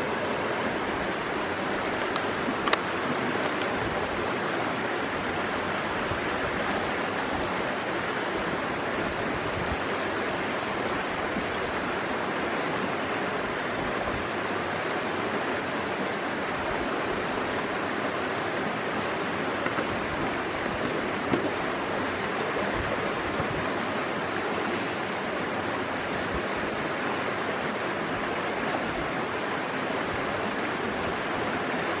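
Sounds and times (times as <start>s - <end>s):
creek water running over stones: 0.0s - 32.0s.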